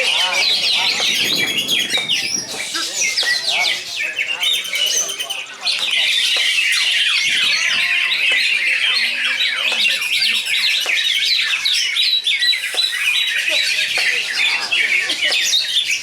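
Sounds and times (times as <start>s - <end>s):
birds warbling and chirping: 0.0s - 16.0s.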